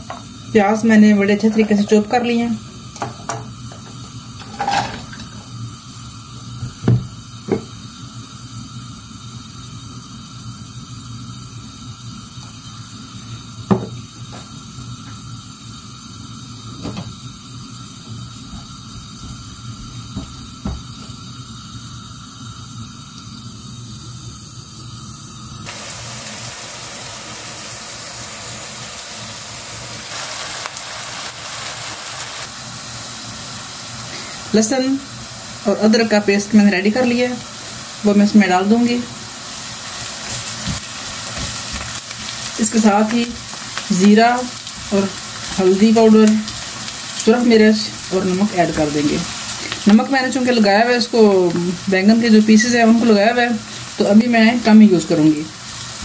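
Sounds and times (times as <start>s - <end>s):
onions sizzling in oil: 0.0s - 56.0s.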